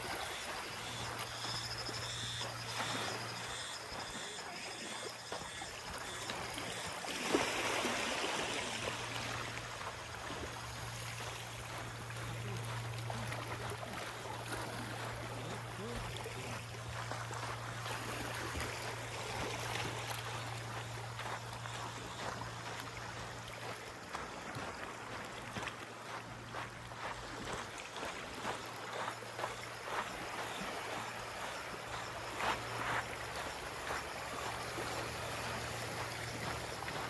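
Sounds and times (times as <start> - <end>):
small waves lapping on sand: 0.0 - 37.0.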